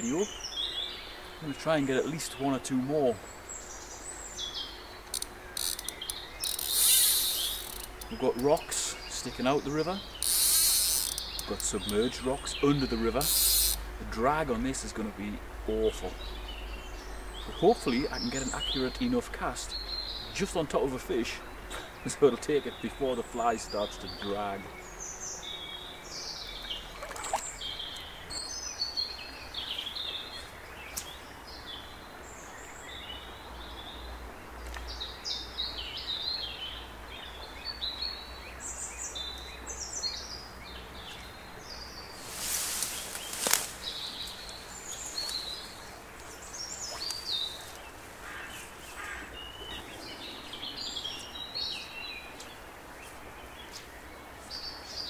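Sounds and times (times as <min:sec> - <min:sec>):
faint background hiss: 0:00.0 - 0:55.0
songbirds singing: 0:00.0 - 0:55.0.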